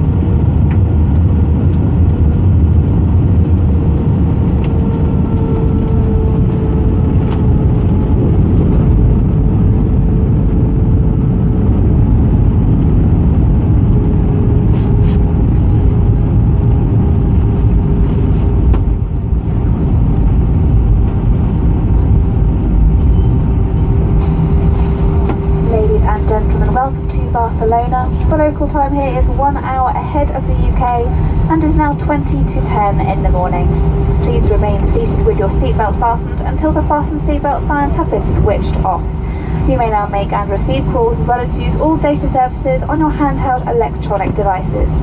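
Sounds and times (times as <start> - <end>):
aircraft cabin rumble: 0.0 - 45.0.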